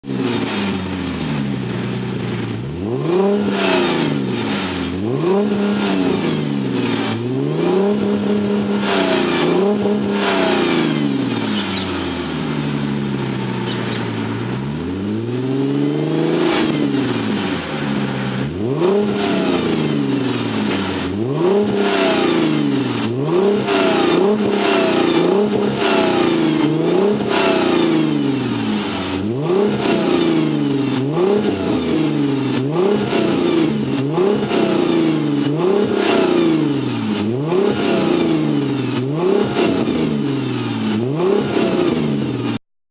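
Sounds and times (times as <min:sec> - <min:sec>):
car engine revving: 0:00.0 - 0:42.6.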